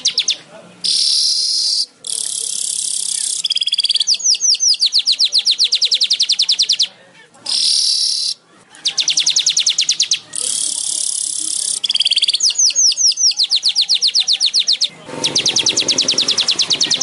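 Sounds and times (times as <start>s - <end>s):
bird sharp sweeping chirps: 0.0s - 6.9s, 7.5s - 17.0s.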